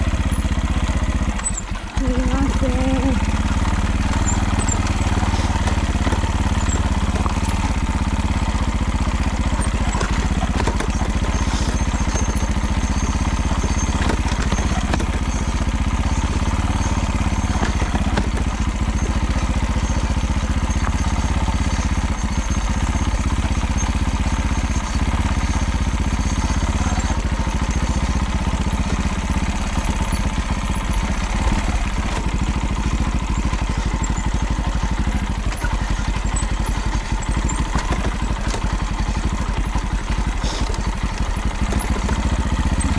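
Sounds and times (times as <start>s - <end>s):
engine rattling clatter: 0.0s - 42.9s
motorcycle engine running: 0.0s - 42.9s.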